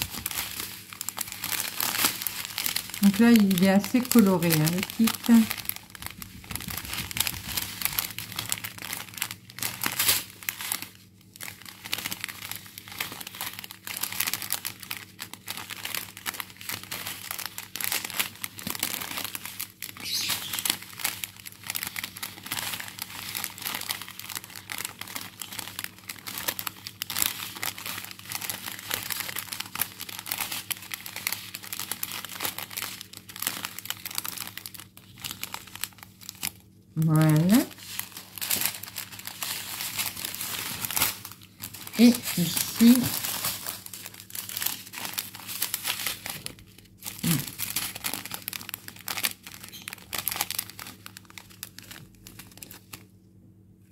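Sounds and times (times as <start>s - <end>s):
plastic bags crinkling: 0.0s - 53.2s.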